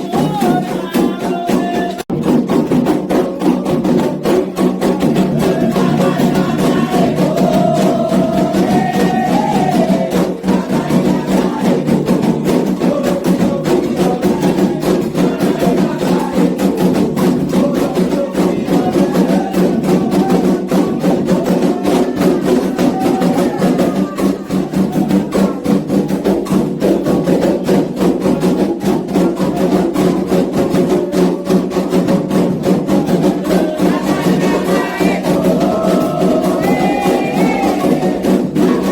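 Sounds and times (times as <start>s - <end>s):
voices singing: 0.0s - 2.1s, 3.0s - 38.9s
hand drums fast rhythm: 0.0s - 38.9s.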